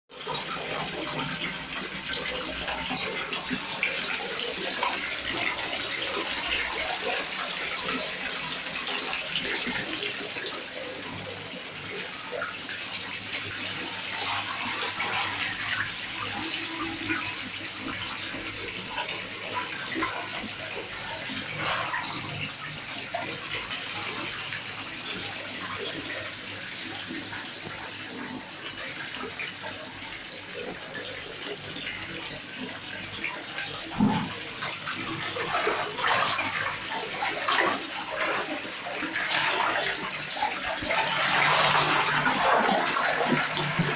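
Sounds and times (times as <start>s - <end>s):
water splashing into fish tank: 0.2s - 43.9s.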